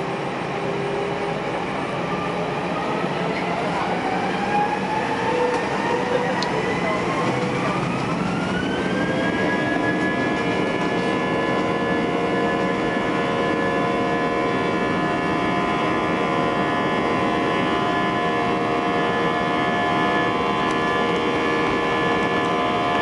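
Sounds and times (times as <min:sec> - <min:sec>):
jet engines at takeoff power: 0:00.0 - 0:23.0.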